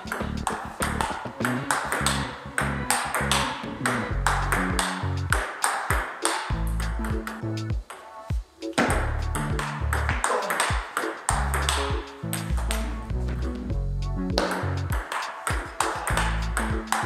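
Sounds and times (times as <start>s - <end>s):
background music with bass: 0.0s - 5.4s, 6.5s - 10.2s, 11.3s - 15.0s, 15.6s - 17.0s
table tennis ball pinging: 0.0s - 8.0s, 8.8s - 13.4s, 14.3s - 17.0s.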